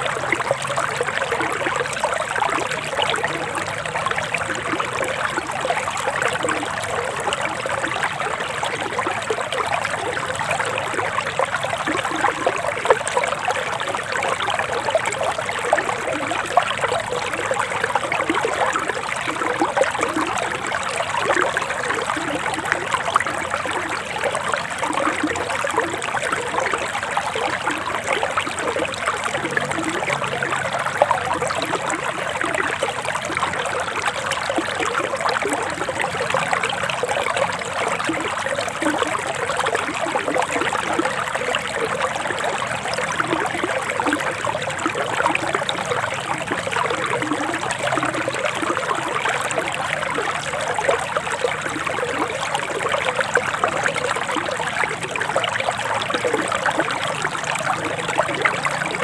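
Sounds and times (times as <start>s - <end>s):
forest stream babbling: 0.0s - 59.0s.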